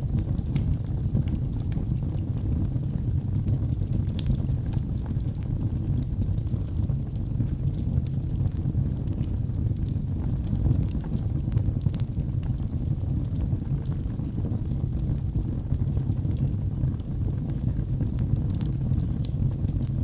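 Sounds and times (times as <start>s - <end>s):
burning logs crackling: 0.0s - 20.0s
fire rumbling in fireplace: 0.0s - 20.0s.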